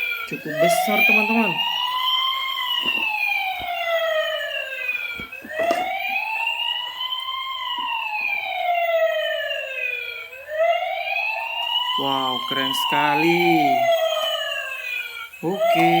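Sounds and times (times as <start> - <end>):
toy siren wailing: 0.0 - 16.0.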